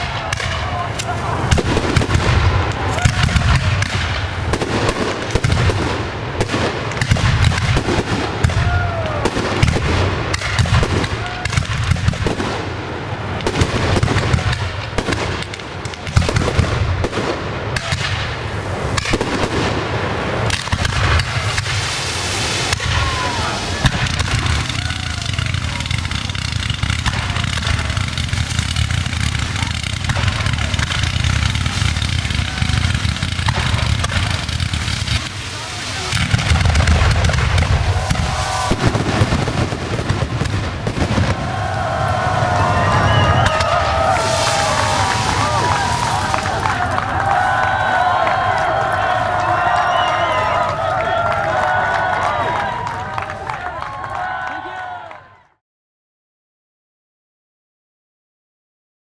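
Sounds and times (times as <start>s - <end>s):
fireworks exploding: 0.0s - 54.9s
fireworks crackling: 0.0s - 55.0s.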